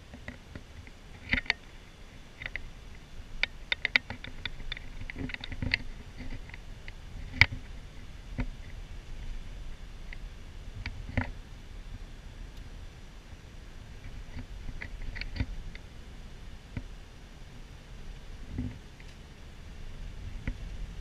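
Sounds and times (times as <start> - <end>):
faint low road rumble: 0.0 - 21.0.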